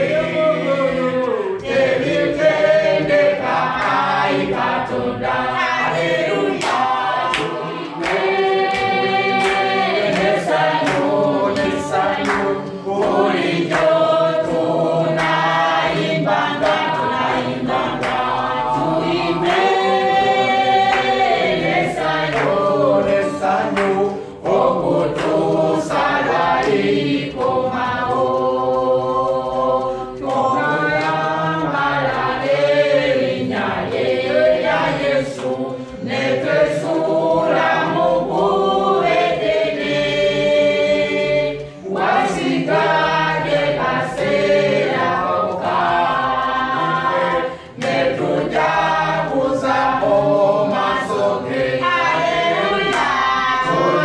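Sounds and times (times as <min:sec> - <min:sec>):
group singing in chorus: 0:00.0 - 0:54.0.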